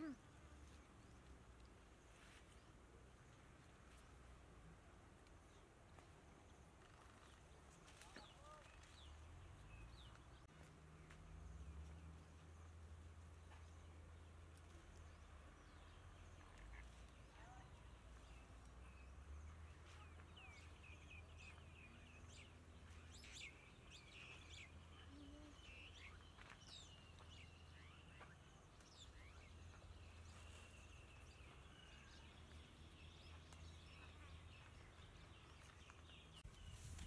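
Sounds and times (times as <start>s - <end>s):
birds chirping: 5.3s - 37.0s.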